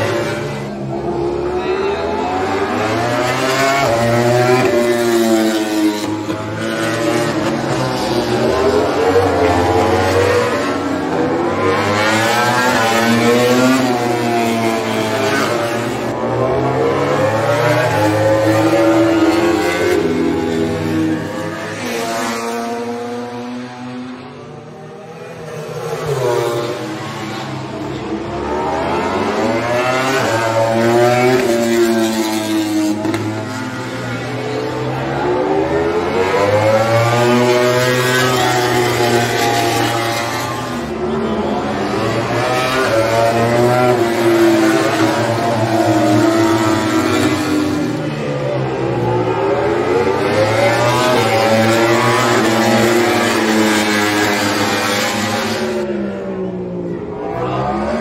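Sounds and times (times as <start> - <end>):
racing motorcycles high-revving: 0.0 - 24.2, 25.6 - 56.2.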